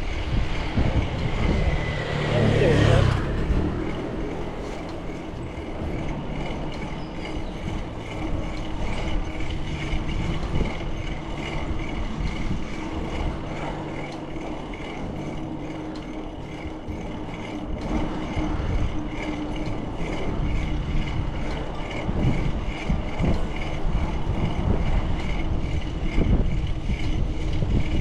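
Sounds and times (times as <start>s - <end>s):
bicycle tyre and wind rumble: 0.0s - 28.0s
light regular ticking: 0.0s - 28.0s.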